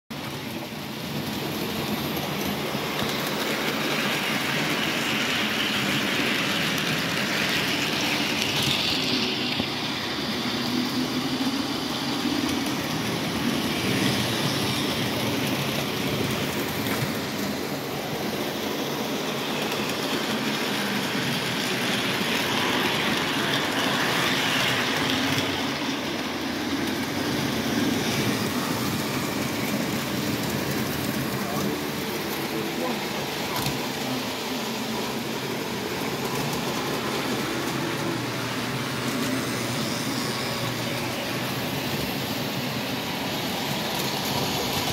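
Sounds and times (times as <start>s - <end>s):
model locomotive motors running: 0.2s - 44.9s
model train wheels rolling: 0.2s - 44.9s.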